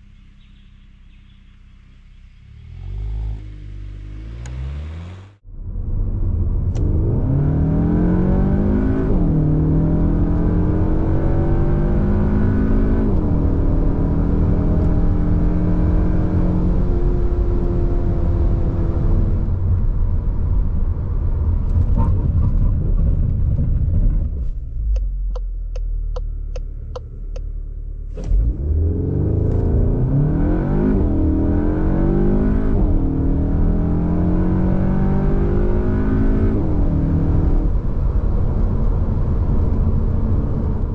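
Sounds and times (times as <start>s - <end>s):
car engine accelerating hard: 0.0s - 25.2s, 26.0s - 40.9s.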